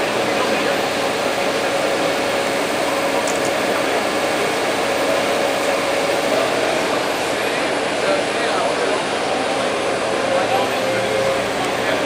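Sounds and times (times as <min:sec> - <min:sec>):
machine drone with whine: 0:00.0 - 0:12.0.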